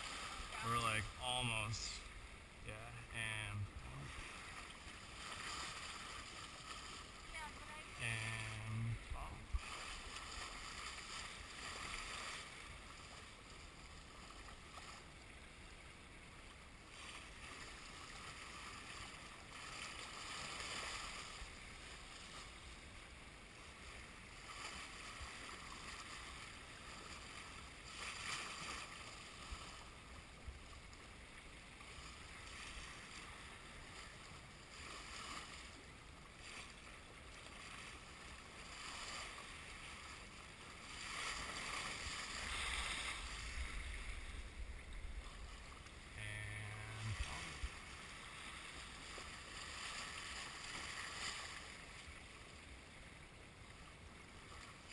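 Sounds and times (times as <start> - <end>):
water washing along boat hull: 0.0 - 52.8.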